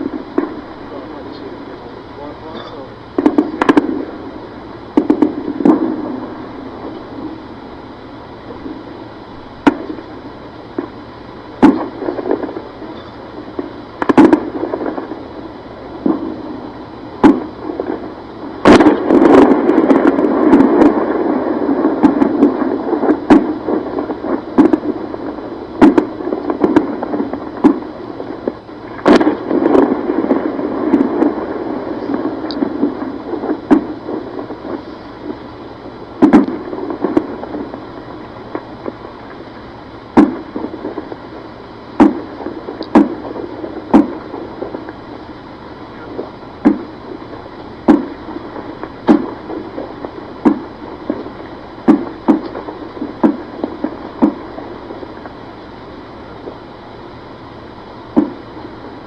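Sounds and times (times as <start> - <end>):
distant gunfire echoing: 0.0 - 7.6, 9.6 - 55.4, 58.1 - 58.5.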